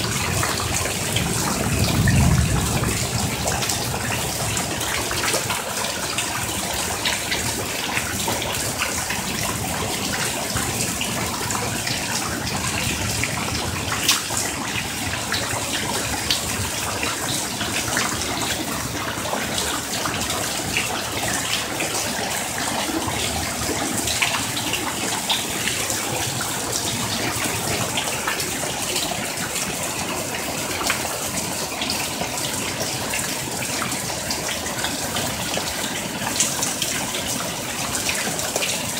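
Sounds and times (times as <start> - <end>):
rain on concrete and pool: 0.0 - 38.9
water drips and splashes: 0.0 - 38.9
water pouring off roof: 0.0 - 38.9.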